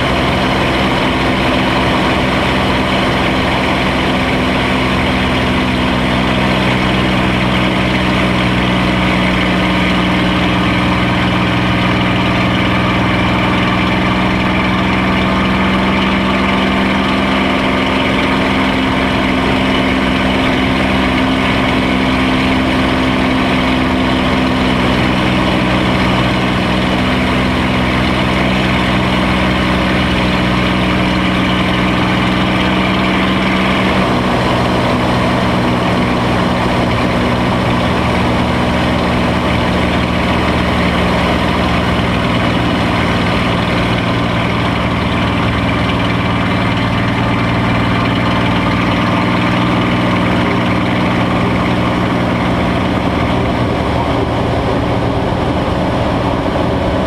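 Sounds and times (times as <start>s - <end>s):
aircraft engine in flight: 0.0s - 57.0s.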